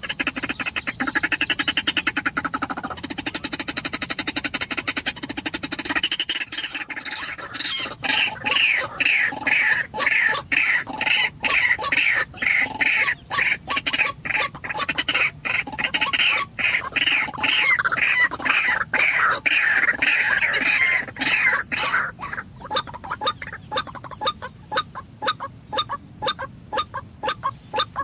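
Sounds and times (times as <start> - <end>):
waterhen calling: 0.0 - 28.0.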